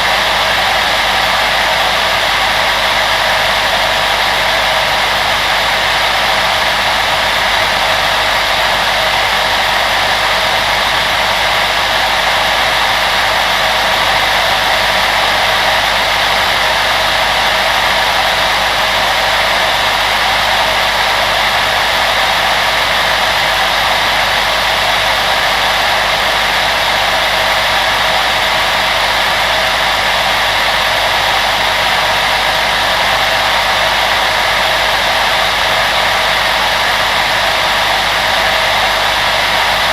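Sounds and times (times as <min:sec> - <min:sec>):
electric fan blowing air: 0:00.0 - 0:39.9.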